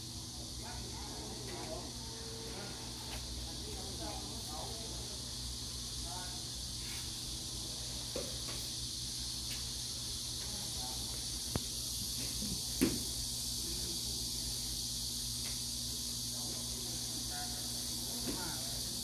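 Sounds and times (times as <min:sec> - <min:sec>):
high-pitched insect chorus: 0:00.1 - 0:19.0.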